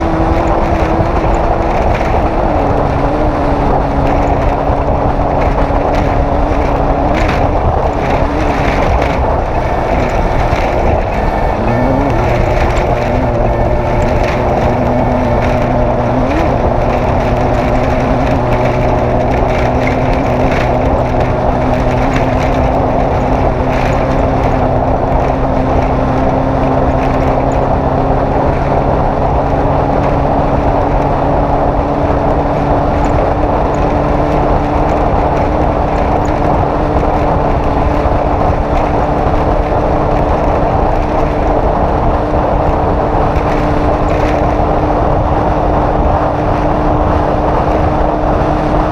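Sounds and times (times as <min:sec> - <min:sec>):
race vehicle engine running: 0:00.0 - 0:48.9
rush of noise: 0:00.0 - 0:48.9.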